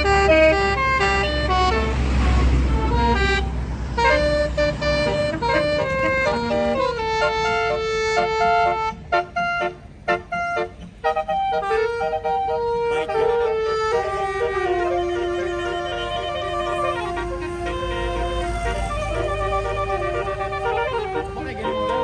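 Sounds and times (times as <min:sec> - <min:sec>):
musical air horn playing melody: 0:00.0 - 0:22.0.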